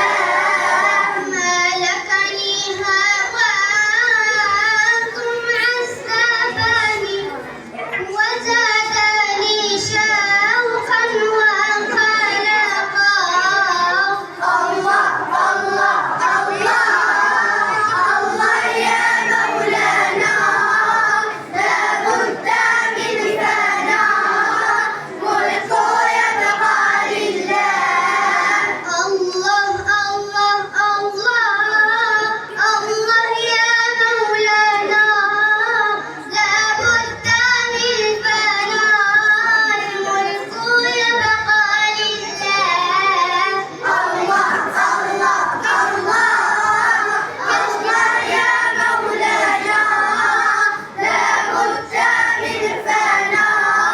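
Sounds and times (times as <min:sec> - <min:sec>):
child singing: 0:00.0 - 0:53.9.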